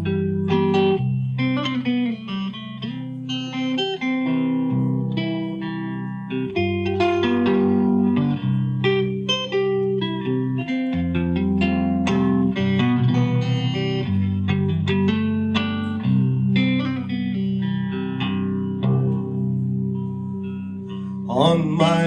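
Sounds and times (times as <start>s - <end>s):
quickly picked guitar notes: 0.0s - 22.0s.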